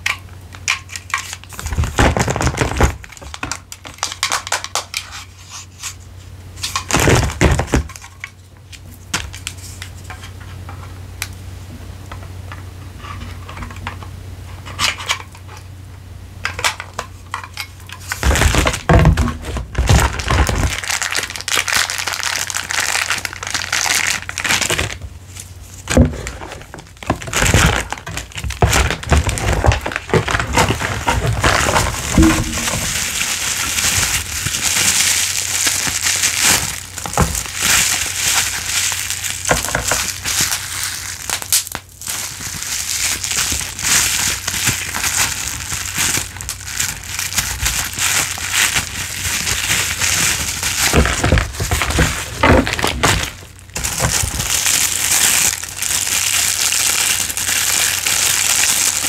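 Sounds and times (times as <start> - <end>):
packaging crinkling and rustling: 0.0 - 6.0, 6.6 - 10.9, 16.5 - 59.0.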